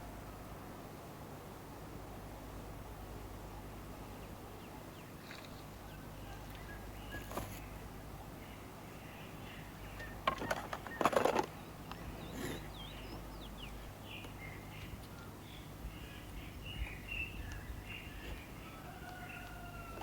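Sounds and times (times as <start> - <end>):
small birds chirping: 3.1 - 20.0.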